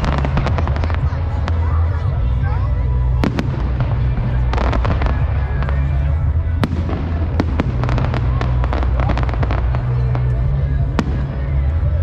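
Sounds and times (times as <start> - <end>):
fireworks bangs: 0.0 - 2.4, 3.0 - 11.9
fireworks crackling: 0.0 - 12.0
music with heavy bass: 0.0 - 12.0.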